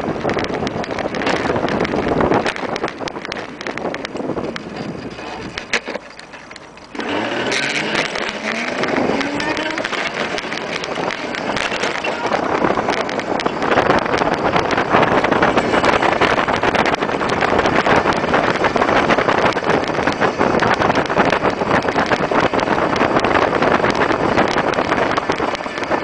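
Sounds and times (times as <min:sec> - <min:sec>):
vehicle engine accelerating: 0:00.0 - 0:26.0
wind rush on microphone: 0:00.0 - 0:26.0.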